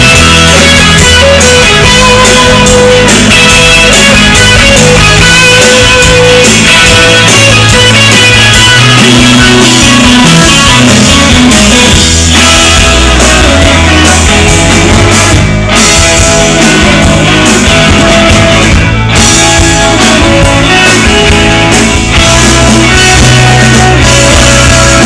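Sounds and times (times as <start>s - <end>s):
bass guitar: 0.0s - 25.0s
drum kit: 0.0s - 25.0s
electric guitars: 0.0s - 25.0s.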